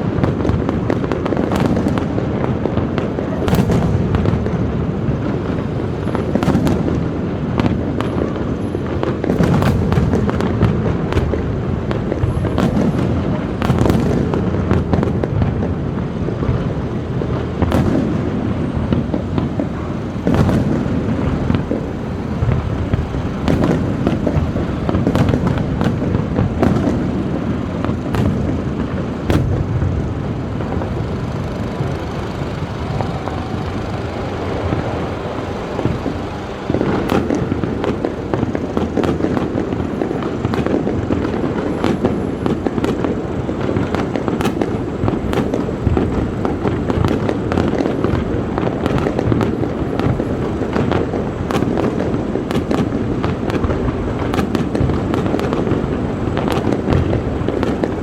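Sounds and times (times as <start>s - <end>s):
fireworks pops and crackles: 0.0s - 58.0s
fireworks shells booming: 0.0s - 58.0s.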